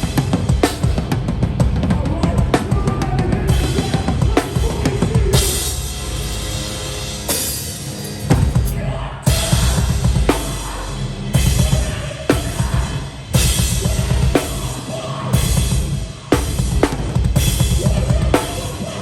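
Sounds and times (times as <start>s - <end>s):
live hardcore band playing: 0.0s - 19.0s
crash cymbals: 3.5s - 19.0s.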